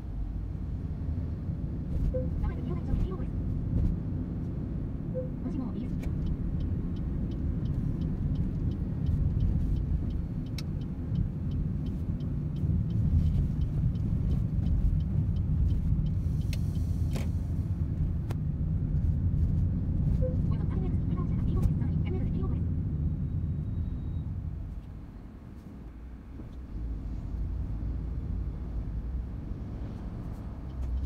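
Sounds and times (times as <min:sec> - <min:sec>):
car road and engine rumble: 0:00.0 - 0:31.0
turn signal ticking: 0:01.8 - 0:03.8, 0:04.9 - 0:19.1, 0:19.8 - 0:25.0, 0:27.4 - 0:31.0.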